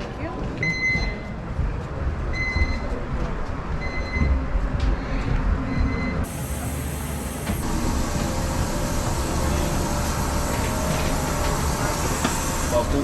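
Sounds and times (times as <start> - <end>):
low rumble of boarding area: 0.0 - 13.0.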